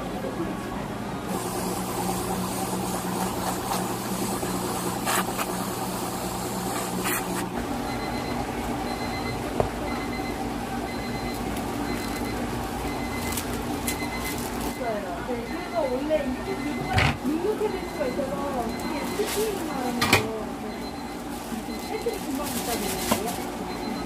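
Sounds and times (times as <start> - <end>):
electrical hum of appliances: 0.0 - 24.0.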